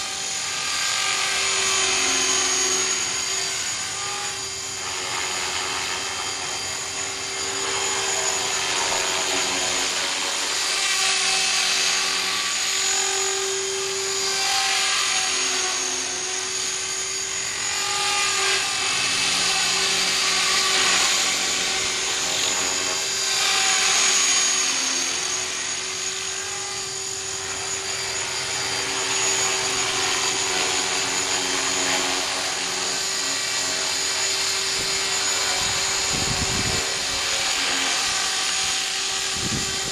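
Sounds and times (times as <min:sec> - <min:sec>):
rc helicopter motor whine and rotor buzz: 0:00.0 - 0:39.9.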